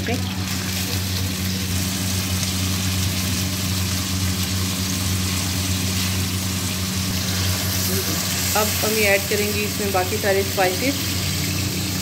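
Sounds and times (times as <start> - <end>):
low steady hum: 0.0 - 12.0
vegetables sizzling in a pan: 0.0 - 12.0.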